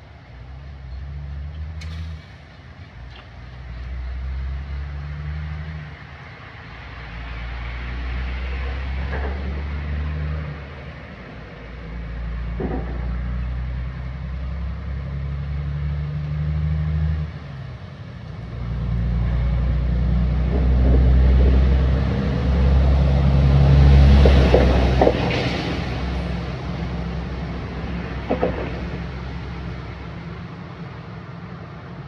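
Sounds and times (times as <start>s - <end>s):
engine humming: 0.0s - 32.0s.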